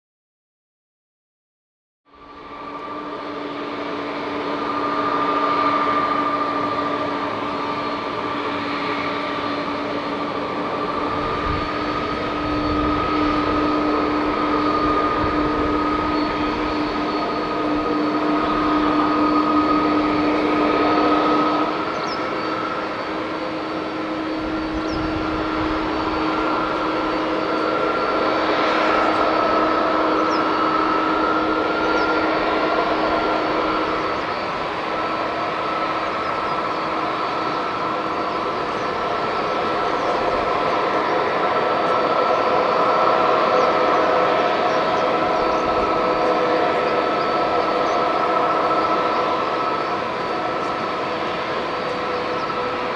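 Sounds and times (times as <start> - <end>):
jet engines whining at low power: 2.1 - 52.9.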